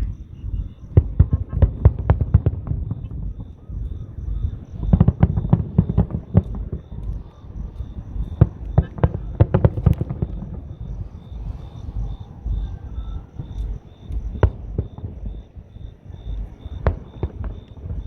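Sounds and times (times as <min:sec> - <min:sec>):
fireworks bangs and crackles: 0:00.0 - 0:18.0
low rumble: 0:00.0 - 0:18.0.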